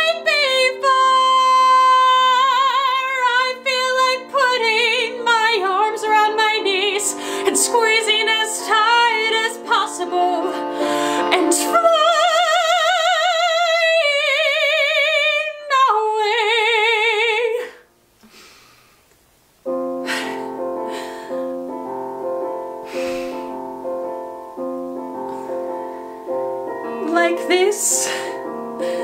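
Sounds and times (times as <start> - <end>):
piano chords: 0.0 - 17.6, 19.6 - 29.0.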